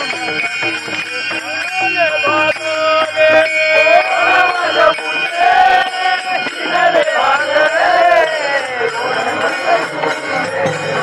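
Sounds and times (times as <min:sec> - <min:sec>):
hand cymbals clashing: 0:00.0 - 0:11.0
men singing a devotional chant: 0:00.0 - 0:11.0.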